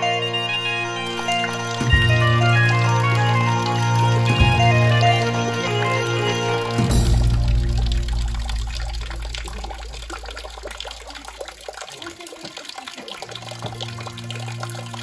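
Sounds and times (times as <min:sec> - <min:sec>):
water trickling into stone jar: 0:01.0 - 0:15.0.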